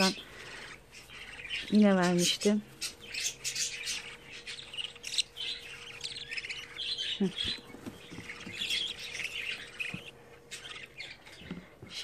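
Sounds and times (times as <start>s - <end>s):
budgerigar chicks cheeping: 0.0s - 12.0s.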